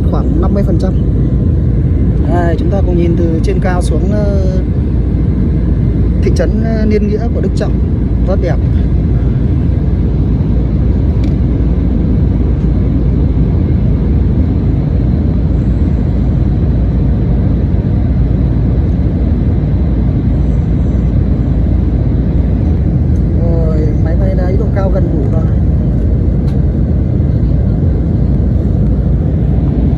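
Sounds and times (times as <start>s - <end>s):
airliner cabin engine and airflow noise: 0.0s - 29.9s.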